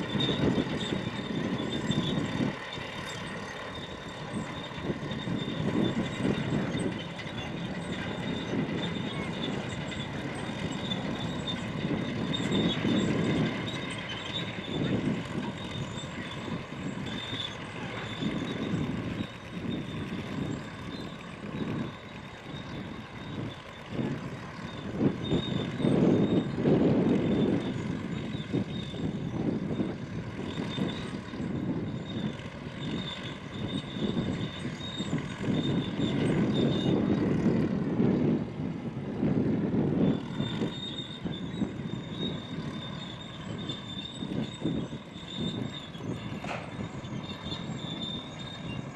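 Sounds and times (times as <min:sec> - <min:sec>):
propeller aircraft engine rumble: 0:00.0 - 0:48.9.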